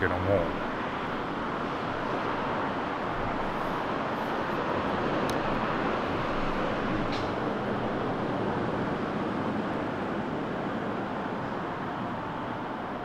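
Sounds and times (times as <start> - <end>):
road traffic roar: 0.0 - 13.0.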